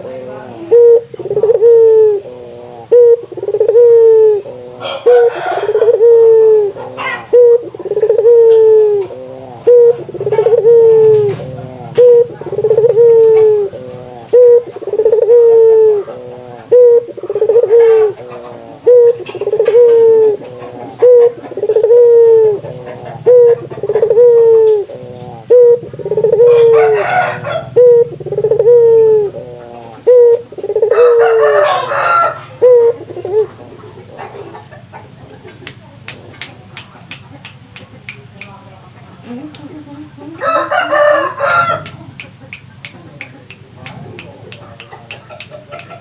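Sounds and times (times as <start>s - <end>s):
dove cooing: 0.0s - 35.6s, 39.2s - 46.0s.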